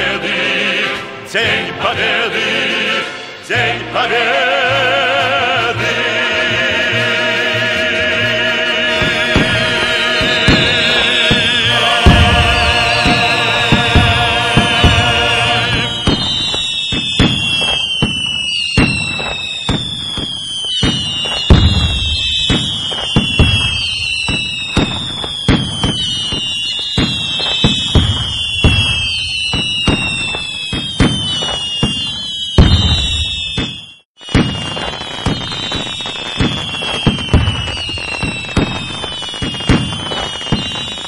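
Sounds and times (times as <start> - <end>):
fireworks whistling downward: 6.1 - 41.0
fireworks bangs and booms: 7.5 - 41.0.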